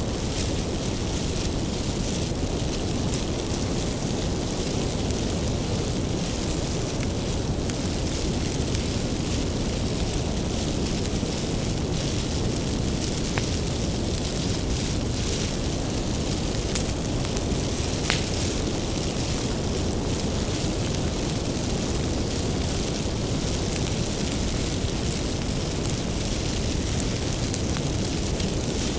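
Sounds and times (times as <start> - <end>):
fire crackles and pops: 0.0 - 28.9
wood fire low rush: 0.0 - 28.9.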